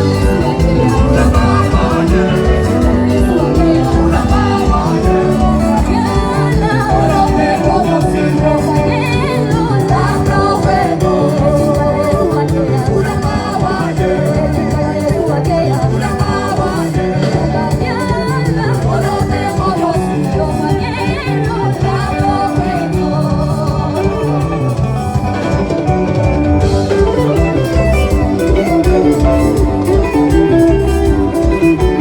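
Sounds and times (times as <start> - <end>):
person singing: 0.0 - 25.7
live band playing dance music: 0.0 - 32.0.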